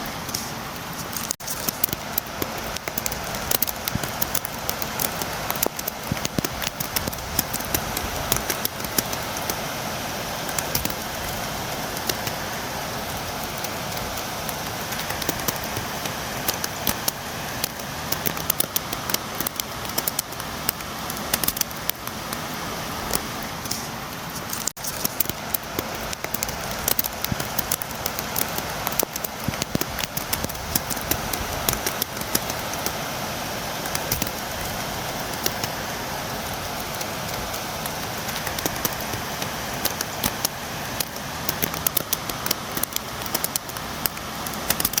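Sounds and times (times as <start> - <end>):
rain on window: 0.0 - 45.0
raindrops tapping: 0.0 - 45.0.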